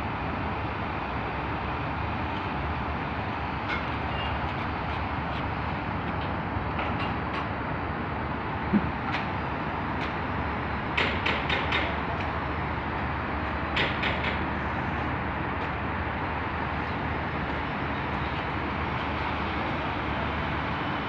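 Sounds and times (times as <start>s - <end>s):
crane engine running: 0.0s - 21.0s.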